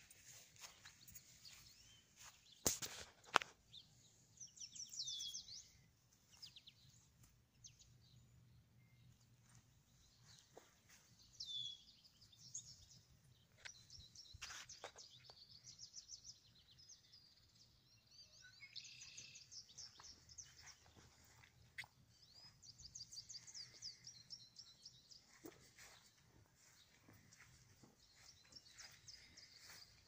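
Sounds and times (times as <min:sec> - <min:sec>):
faint songbirds trilling: 0:00.0 - 0:30.0.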